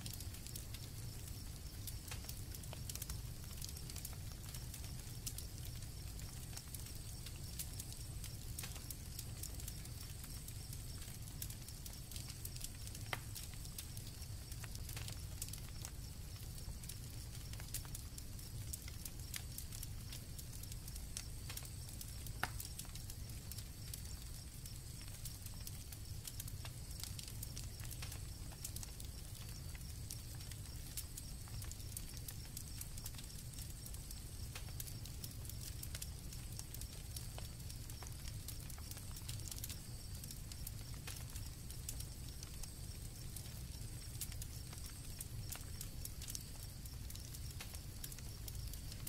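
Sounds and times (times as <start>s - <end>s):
campfire crackling and popping: 0.0s - 49.0s
crickets trilling: 0.0s - 49.0s.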